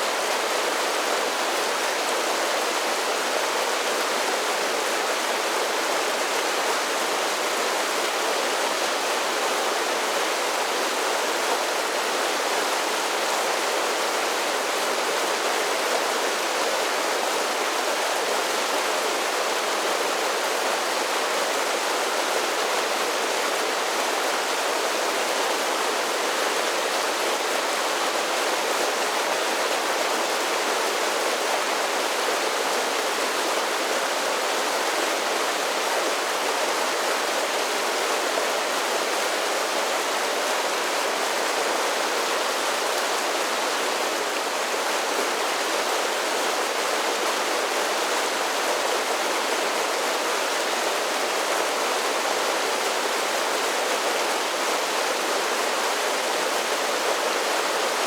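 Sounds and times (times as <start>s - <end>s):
water cascading over small waterfalls: 0.0s - 58.0s.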